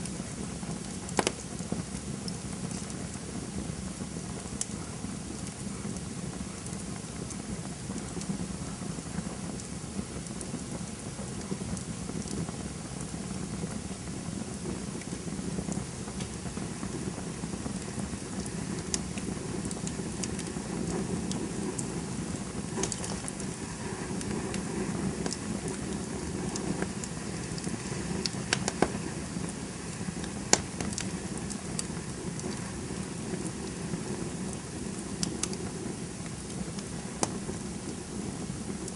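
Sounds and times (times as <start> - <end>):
campfire flames rushing: 0.0 - 38.9
fire crackling and popping: 0.0 - 38.9.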